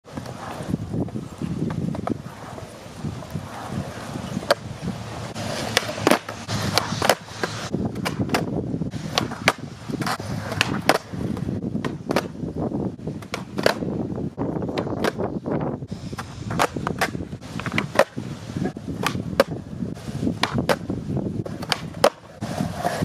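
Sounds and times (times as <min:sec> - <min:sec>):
skateboard wheels rolling on concrete: 0:00.0 - 0:23.0
skateboard deck clacking: 0:00.1 - 0:12.5, 0:13.1 - 0:15.4, 0:16.1 - 0:23.0.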